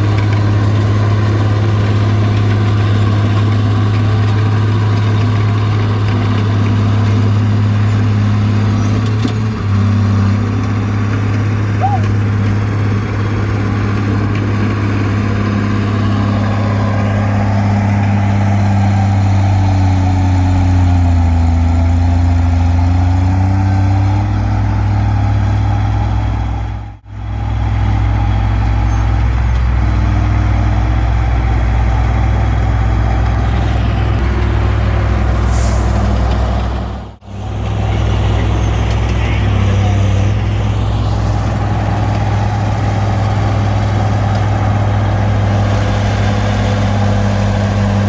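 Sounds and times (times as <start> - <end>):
bulldozer diesel engine running: 0.0 - 48.0.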